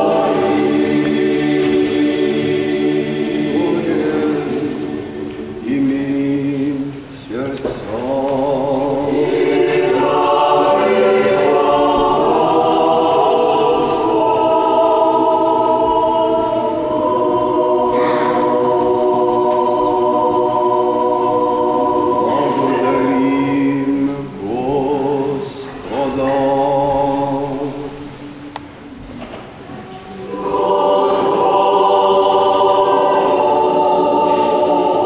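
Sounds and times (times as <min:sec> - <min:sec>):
choir chanting a cappella: 0:00.0 - 0:35.0.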